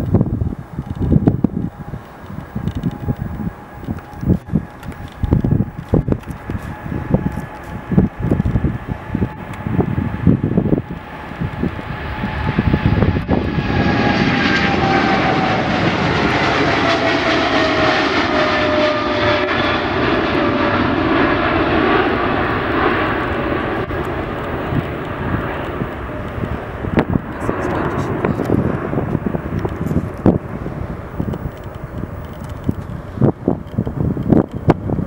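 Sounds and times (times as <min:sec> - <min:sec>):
airplane flying past: 0:00.0 - 0:35.0
falling engine whine: 0:00.0 - 0:35.0.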